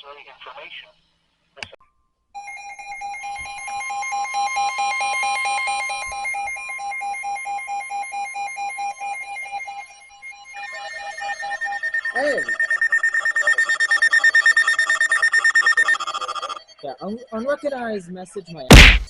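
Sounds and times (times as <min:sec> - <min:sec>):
rapid electronic alarm beeping: 0:02.4 - 0:19.0.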